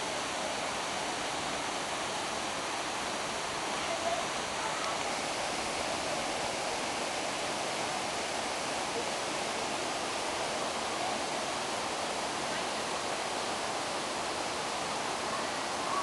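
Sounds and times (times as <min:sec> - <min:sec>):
waterfall rushing onto rocks: 0:00.0 - 0:16.0.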